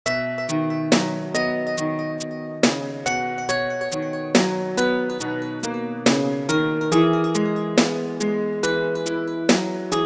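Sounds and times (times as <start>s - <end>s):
plucked string notes: 0.0s - 10.0s.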